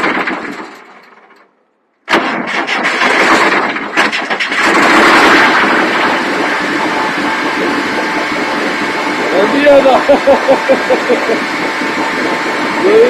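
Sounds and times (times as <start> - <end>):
diesel engine starting and running: 0.0 - 13.0.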